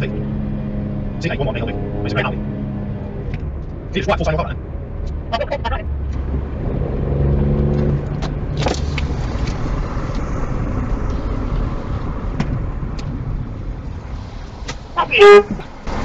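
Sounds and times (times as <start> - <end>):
car engine: 0.0 - 16.0
road noise rumble: 0.0 - 16.0.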